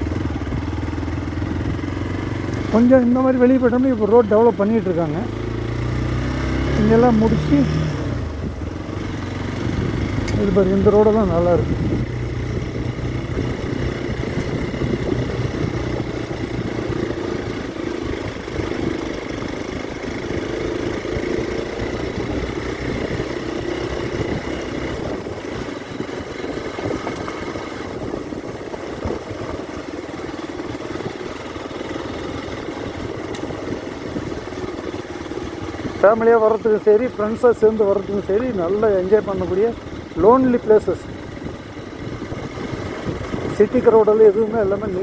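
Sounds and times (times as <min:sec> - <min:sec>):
motorcycle engine rumble: 0:00.0 - 0:45.0.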